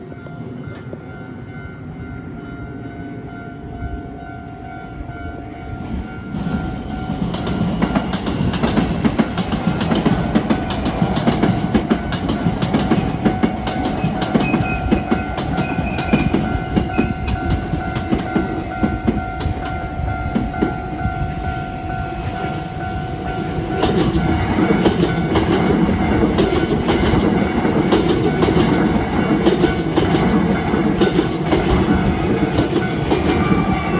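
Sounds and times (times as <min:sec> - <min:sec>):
crossing warning bell: 0:00.0 - 0:33.9
train wheels clacking over rails: 0:05.7 - 0:33.9.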